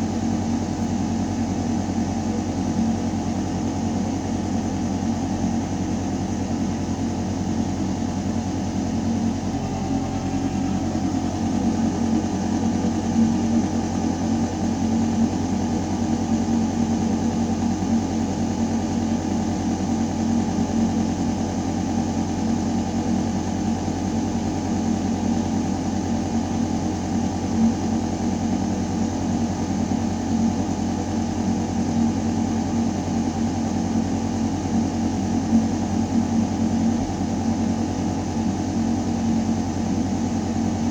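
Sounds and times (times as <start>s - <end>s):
ventilation hum tones: 0.0s - 40.9s.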